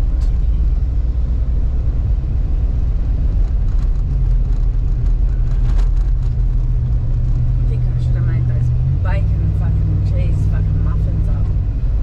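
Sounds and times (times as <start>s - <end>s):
tyres and engine rumbling: 0.0s - 12.0s.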